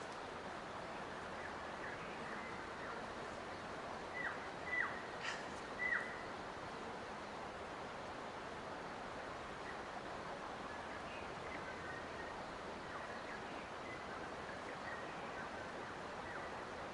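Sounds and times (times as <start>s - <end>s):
forest ambience hiss: 0.0s - 16.9s.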